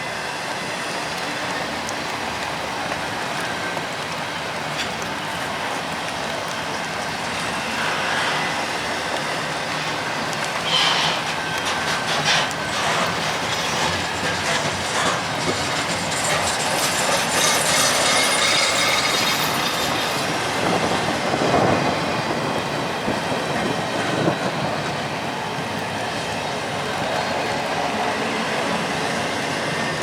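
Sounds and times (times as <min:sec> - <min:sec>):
train wheels clattering on track: 0:00.2 - 0:30.0.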